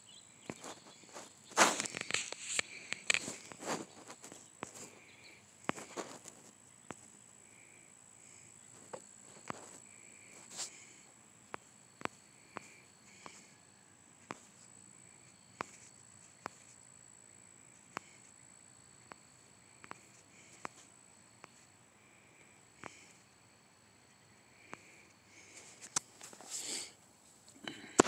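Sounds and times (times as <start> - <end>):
steady high-pitched whine: 0.0 - 28.0.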